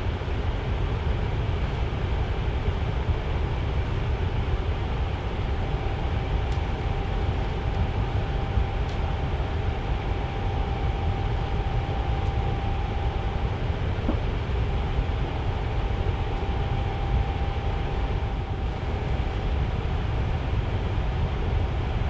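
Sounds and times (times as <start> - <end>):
faint motor hum: 0.0 - 22.0.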